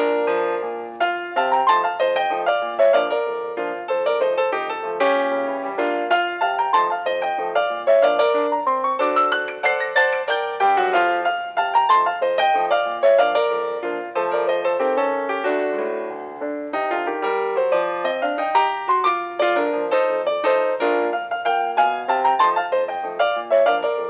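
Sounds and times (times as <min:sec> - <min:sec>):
bright piano melody: 0:00.0 - 0:24.0.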